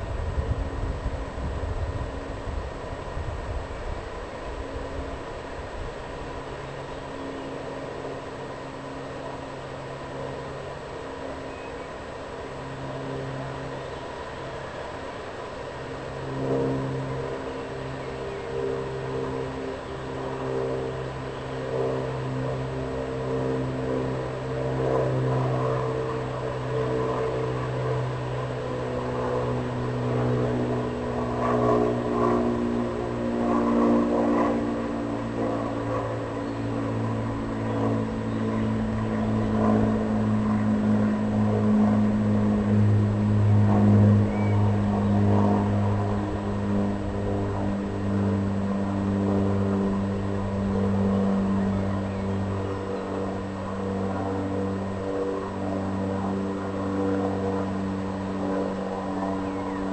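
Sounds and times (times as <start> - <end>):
engine drone: 0.0 - 59.9.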